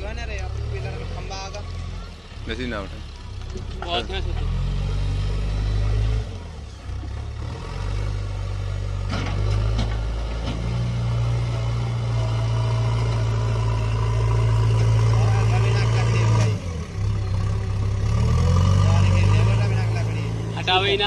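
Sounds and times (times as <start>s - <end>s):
heavy diesel engine drone: 0.0s - 21.0s.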